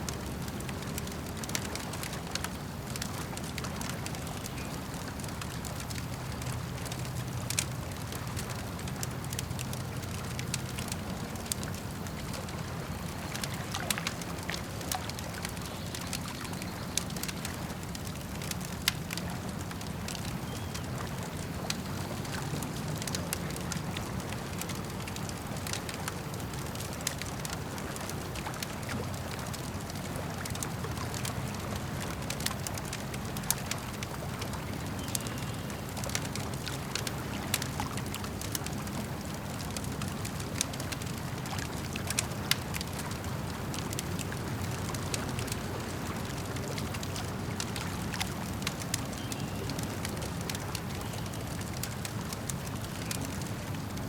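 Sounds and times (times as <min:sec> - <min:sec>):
campfire crackling and popping: 0:00.0 - 0:54.0
lapping lake water: 0:00.0 - 0:54.0.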